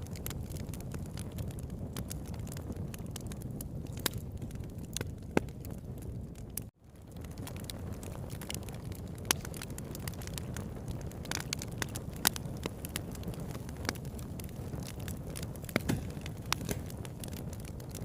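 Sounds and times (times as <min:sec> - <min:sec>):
burning wood crackling and popping: 0:00.0 - 0:18.0
wood fire rumbling: 0:00.0 - 0:18.0.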